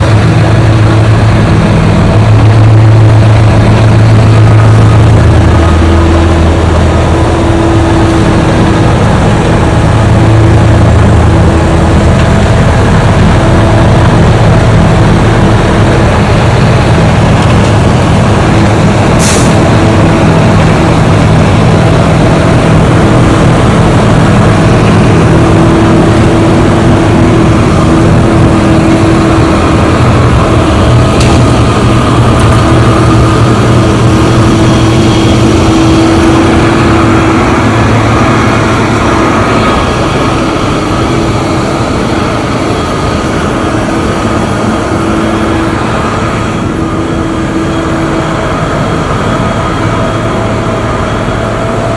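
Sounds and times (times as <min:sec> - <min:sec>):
engine running loudly: 0:00.0 - 0:51.9.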